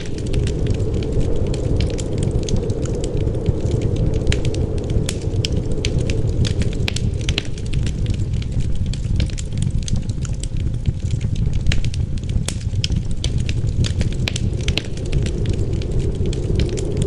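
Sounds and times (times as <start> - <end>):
low rumble of wind and flames: 0.0 - 17.0
wood fire crackling and popping: 0.0 - 17.0.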